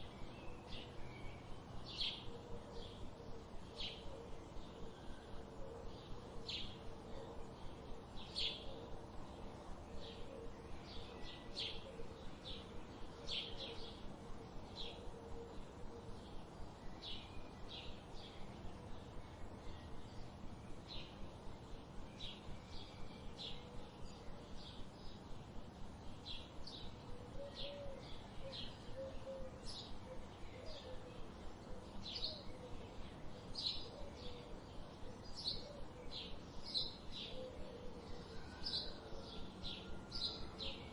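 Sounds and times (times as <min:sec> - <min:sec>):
faint background hum: 0:00.0 - 0:40.9
songbirds chirping: 0:00.0 - 0:40.9.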